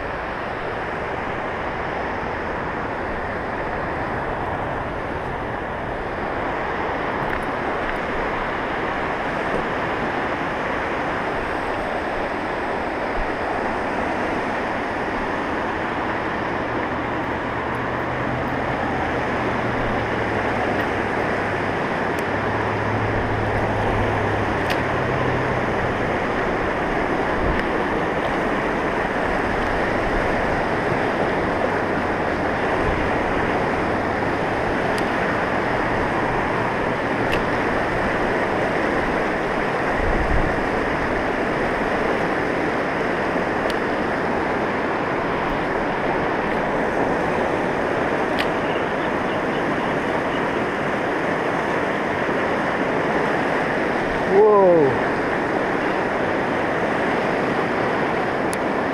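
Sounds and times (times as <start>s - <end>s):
whitewater rushing over rocks: 0.0s - 58.9s.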